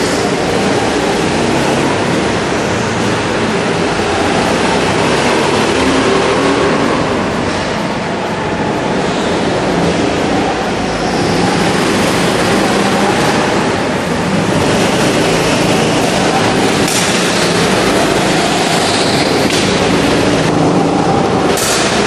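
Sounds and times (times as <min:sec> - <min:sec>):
go-kart engines running: 0:00.0 - 0:22.0.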